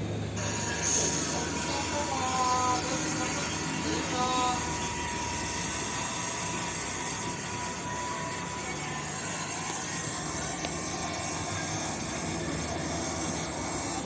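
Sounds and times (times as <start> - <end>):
faint steady whine: 0.0 - 14.0
train rumble from inside carriage: 0.0 - 14.0.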